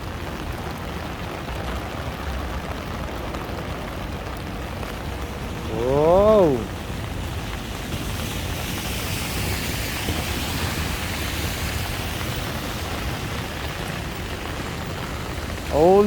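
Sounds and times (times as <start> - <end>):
heavy rain on wet street: 0.0 - 16.0
traffic noise: 0.0 - 16.0.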